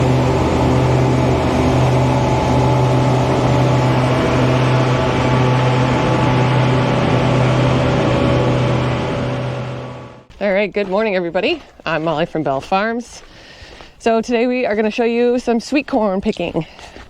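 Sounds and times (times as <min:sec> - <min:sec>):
motor engine humming: 0:00.0 - 0:17.0.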